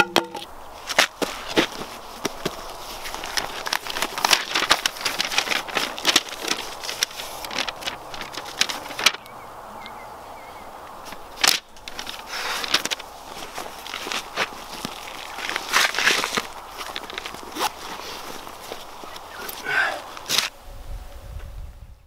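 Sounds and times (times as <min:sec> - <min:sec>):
clothing rustling and crinkling: 0:00.8 - 0:09.2, 0:11.0 - 0:20.5
paper being handled: 0:00.8 - 0:09.2, 0:11.0 - 0:20.5.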